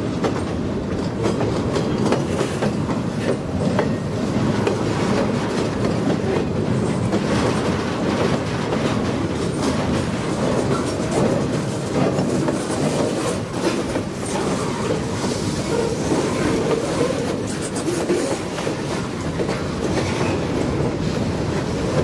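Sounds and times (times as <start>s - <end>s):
train rumble: 0.0s - 22.0s
train wheels clacking on rails: 0.0s - 22.0s.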